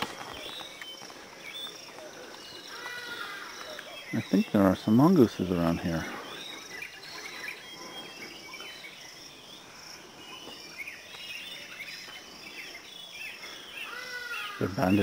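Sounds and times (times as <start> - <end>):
bird chirps and twitters: 0.0 - 15.0
high insect drone: 0.0 - 15.0.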